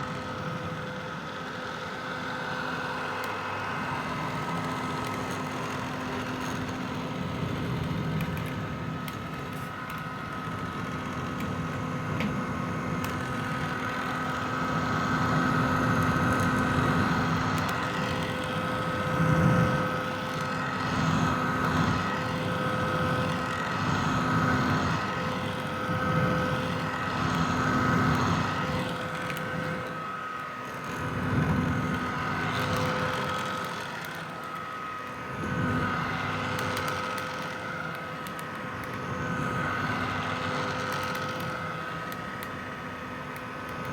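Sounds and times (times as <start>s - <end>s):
hair dryer running: 0.0s - 43.9s.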